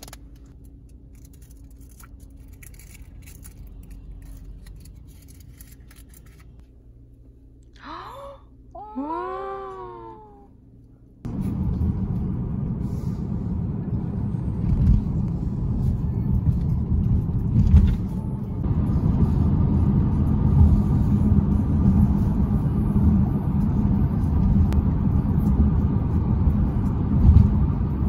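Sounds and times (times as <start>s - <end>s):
car road noise rumble: 0.0s - 7.6s, 9.8s - 28.0s.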